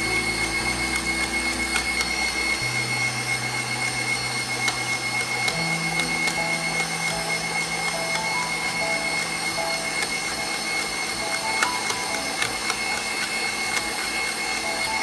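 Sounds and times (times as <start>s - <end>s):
stand mixer motor whirring: 0.0s - 15.0s
whisk beating dough in steel bowl: 0.0s - 15.0s.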